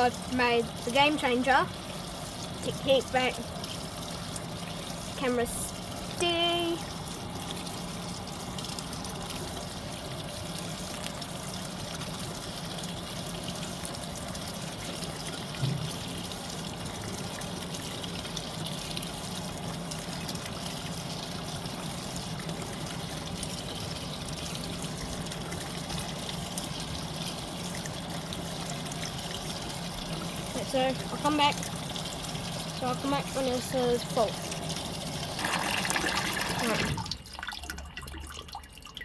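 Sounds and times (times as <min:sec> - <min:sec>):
water pouring into washing machine: 0:00.0 - 0:39.0.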